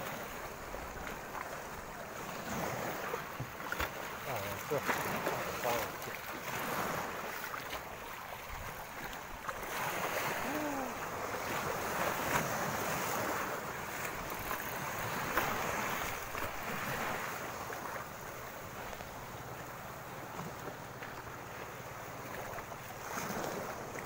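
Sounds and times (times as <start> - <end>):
sea washing against shore: 0.0 - 24.0.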